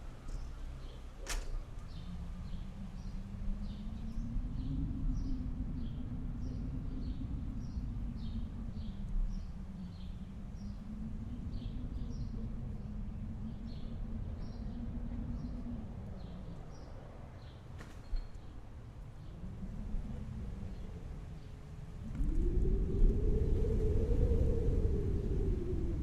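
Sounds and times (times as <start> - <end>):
howling wind: 0.0 - 26.0.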